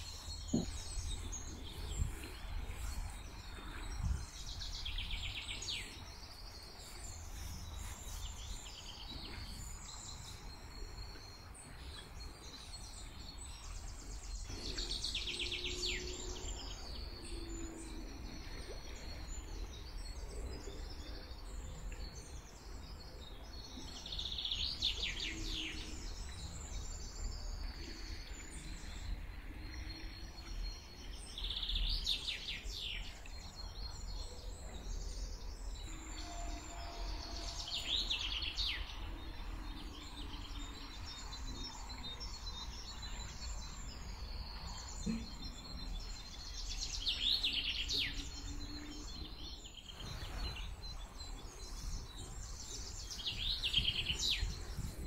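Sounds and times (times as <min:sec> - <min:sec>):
soft bird chirps: 0:00.0 - 0:55.0.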